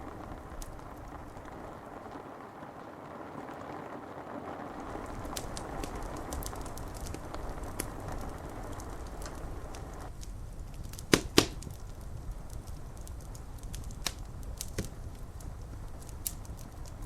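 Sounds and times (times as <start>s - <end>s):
loud fire pops: 0.0s - 17.0s
rain hiss: 0.0s - 17.0s
wood fire crackling: 0.0s - 17.0s.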